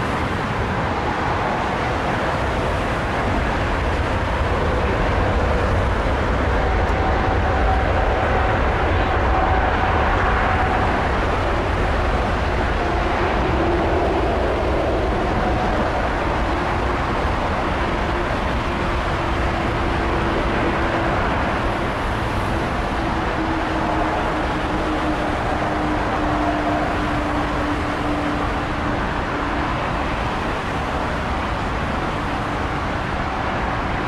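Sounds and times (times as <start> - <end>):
faint jet engine whine: 0.0 - 34.0
jet engines roaring: 0.0 - 34.0.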